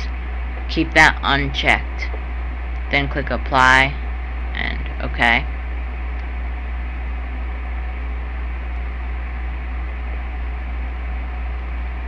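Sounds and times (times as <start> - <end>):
low hum with hiss: 0.0 - 12.0.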